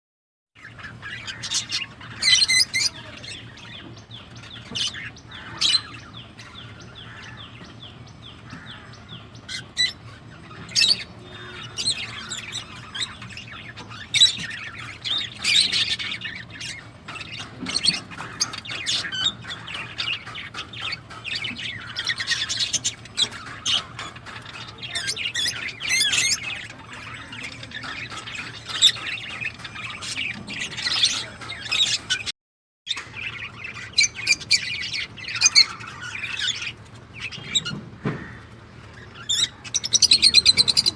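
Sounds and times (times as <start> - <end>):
parrots chattering and squawking: 0.6 - 32.3, 32.9 - 40.9.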